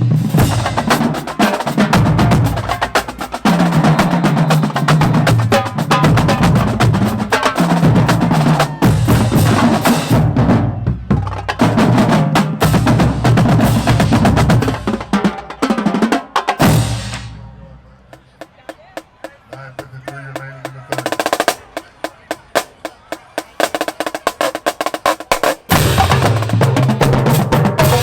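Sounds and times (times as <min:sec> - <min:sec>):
marching drumline cadence: 0:00.0 - 0:28.0.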